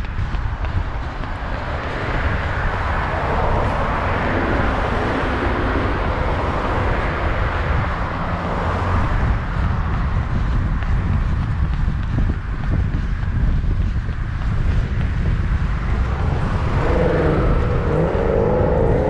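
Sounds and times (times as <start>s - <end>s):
road traffic passing: 0.0s - 19.0s
wind rumble on microphone: 0.0s - 19.0s.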